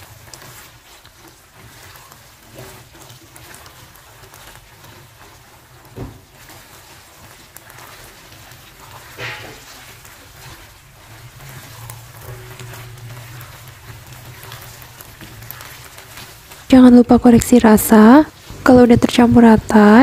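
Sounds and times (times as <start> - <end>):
sauce sizzling in a frying pan: 0.0 - 20.0
spatula swishing through sauce: 0.0 - 20.0.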